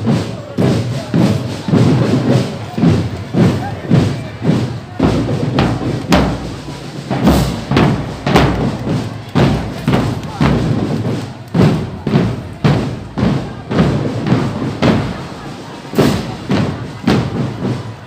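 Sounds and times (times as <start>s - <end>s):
parade drums: 0.0s - 18.0s.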